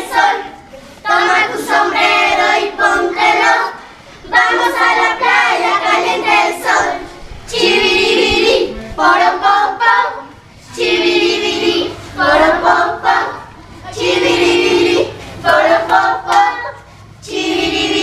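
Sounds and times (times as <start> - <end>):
children singing together: 0.0 - 18.0.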